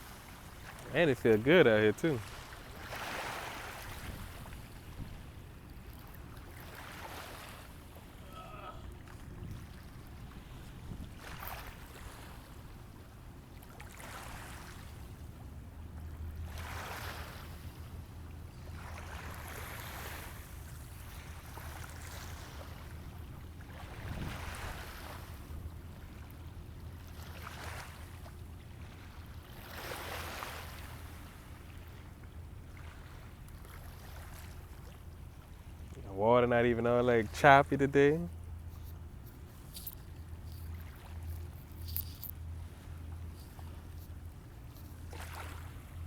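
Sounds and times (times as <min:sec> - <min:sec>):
river water lapping: 0:00.0 - 0:46.0.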